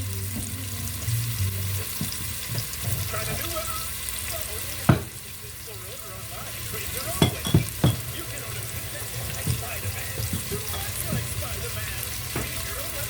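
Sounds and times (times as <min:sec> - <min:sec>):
butter sizzling in a frying pan: 0:00.0 - 0:13.0.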